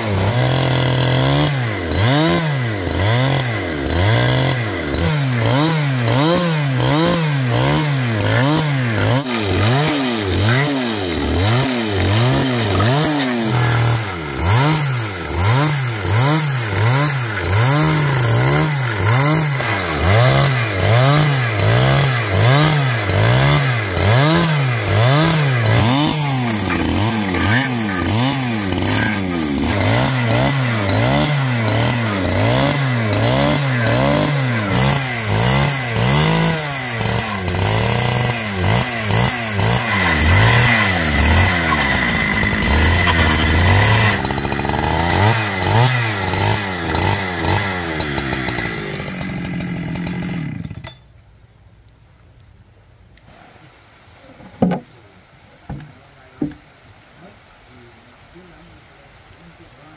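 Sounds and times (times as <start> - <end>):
chainsaw cutting wood: 0.0 - 51.1.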